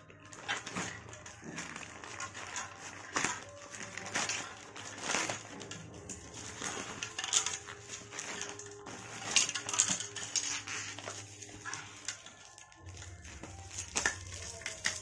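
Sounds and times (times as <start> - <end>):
plastic mailer bag crinkling: 0.0 - 15.0.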